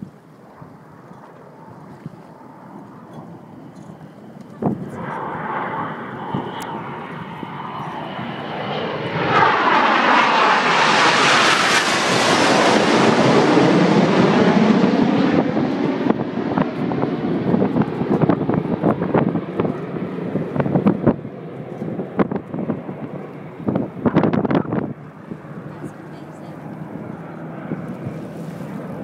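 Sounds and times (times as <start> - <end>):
wind buffeting microphone: 0.0 - 29.0
jets passing overhead: 0.4 - 29.0.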